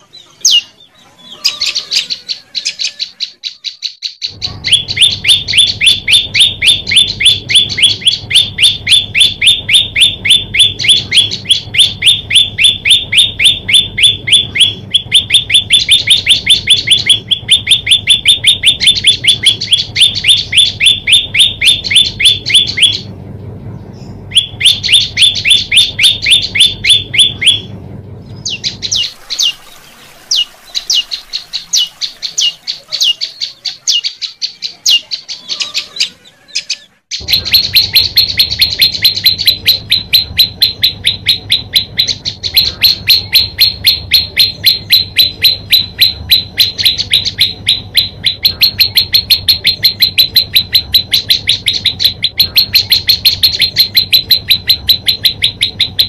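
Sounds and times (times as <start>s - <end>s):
bird sharp chirps: 0.0s - 23.1s, 23.9s - 27.7s, 28.4s - 56.0s.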